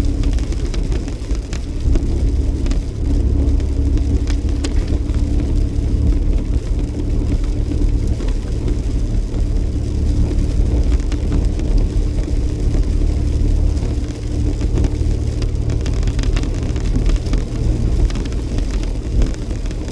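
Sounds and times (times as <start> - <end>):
car road rumble and engine: 0.0 - 19.9
faint steady hum: 0.0 - 19.9.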